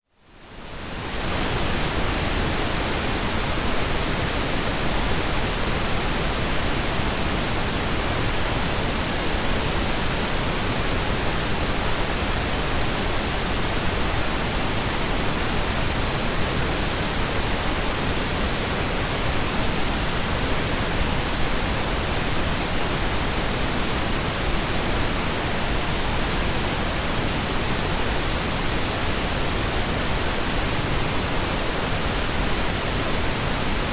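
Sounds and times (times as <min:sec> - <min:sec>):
pink noise hiss: 0:00.2 - 0:33.9.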